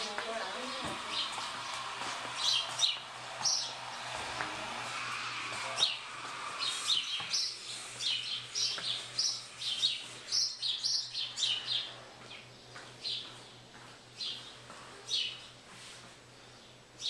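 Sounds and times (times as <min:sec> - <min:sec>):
small birds chirping: 0:00.0 - 0:04.5, 0:05.5 - 0:17.0.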